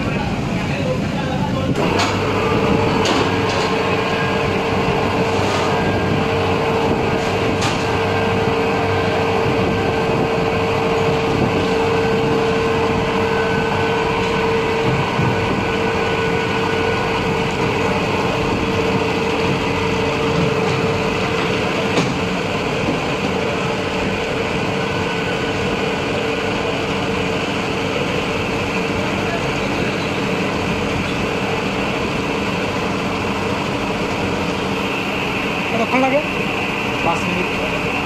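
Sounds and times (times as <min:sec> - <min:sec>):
spin dryer humming and whining: 0:00.0 - 0:38.0.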